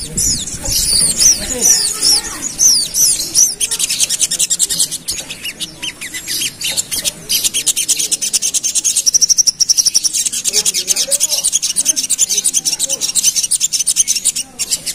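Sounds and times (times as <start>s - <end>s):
bird chattering chirps: 0.0s - 14.9s
bird trill: 0.0s - 14.9s.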